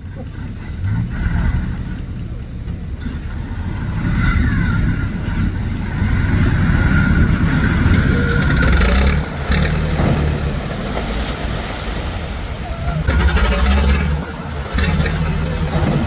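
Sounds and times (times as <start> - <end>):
heavy vehicle engine running hard: 0.0 - 16.0.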